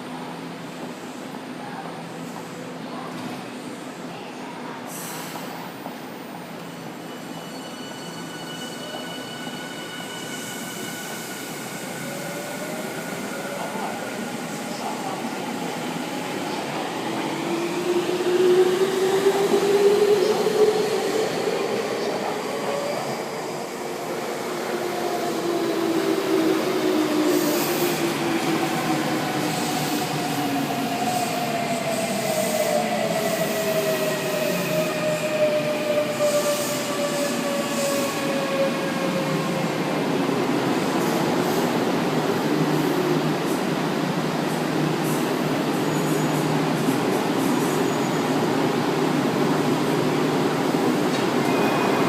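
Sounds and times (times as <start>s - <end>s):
rail and wheel noise: 0.0s - 52.0s.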